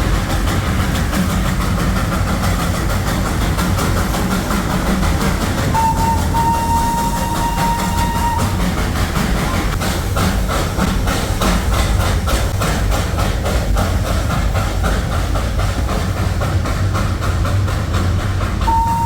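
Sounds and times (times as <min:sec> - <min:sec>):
steam locomotive exhaust chuffing: 0:00.0 - 0:19.0
train rumbling on track: 0:00.0 - 0:19.0.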